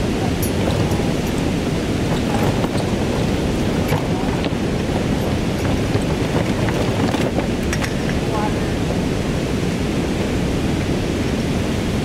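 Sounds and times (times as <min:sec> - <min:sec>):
water rushing over rapids: 0:00.0 - 0:12.0.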